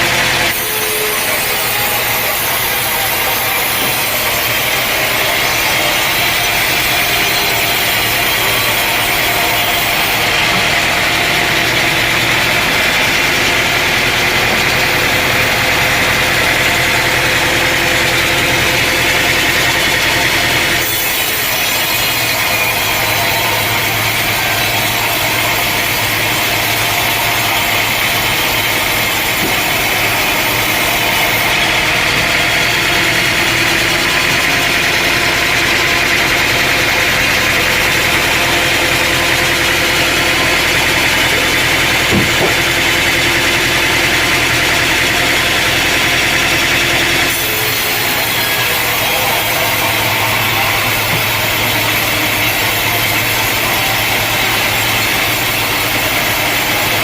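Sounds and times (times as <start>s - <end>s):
engine running steadily: 0.0s - 57.0s
saw blade cutting log: 0.0s - 57.0s.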